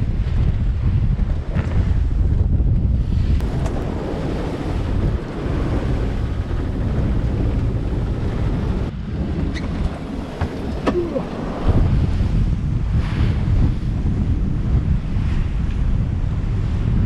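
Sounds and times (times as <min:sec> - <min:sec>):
waves rushing along hull: 0:00.0 - 0:17.0
wind buffeting microphone: 0:00.0 - 0:17.0.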